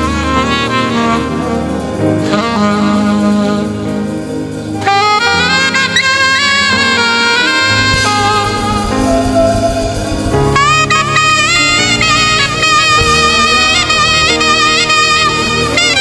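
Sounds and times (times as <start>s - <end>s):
band accompaniment: 0.0s - 16.0s
saxophone lead melody: 0.0s - 16.0s.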